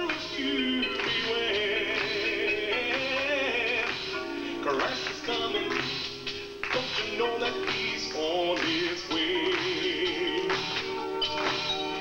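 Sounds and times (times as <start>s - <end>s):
man singing: 0.0s - 5.8s, 6.6s - 10.7s
sustained backing music: 0.0s - 12.0s.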